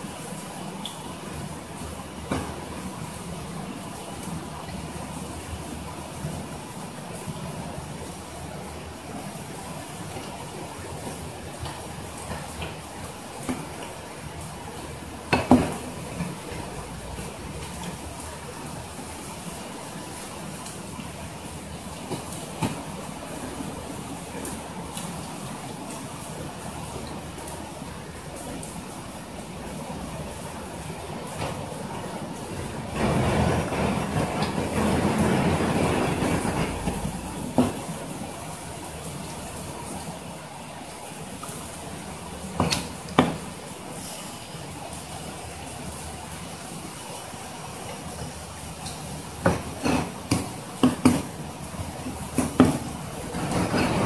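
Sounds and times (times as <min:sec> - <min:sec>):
running water hiss: 0:00.0 - 0:54.0.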